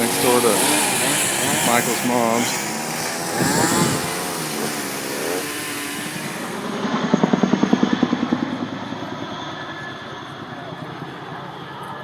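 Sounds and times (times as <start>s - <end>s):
helicopter rotor beating: 0.0s - 11.9s.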